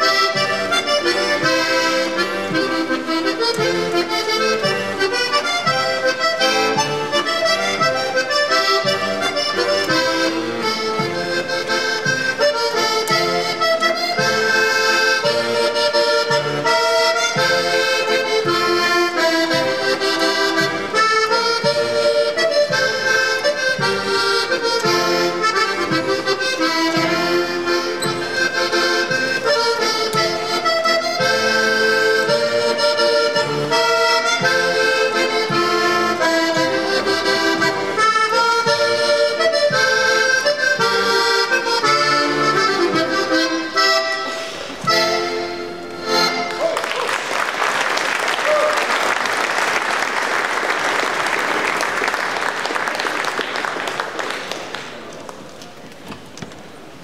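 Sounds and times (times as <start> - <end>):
button accordion folk dance tune: 0.0 - 55.0.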